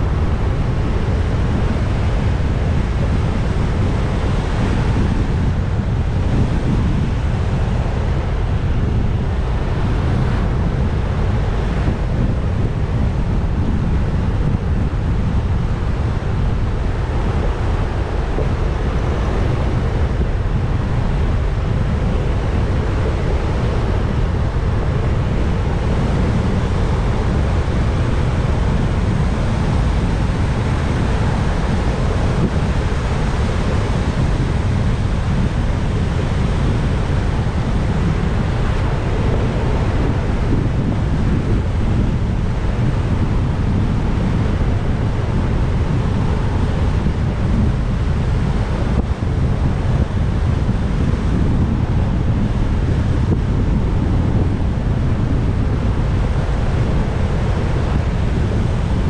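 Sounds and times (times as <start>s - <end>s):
wind rush on microphone: 0.0s - 59.0s.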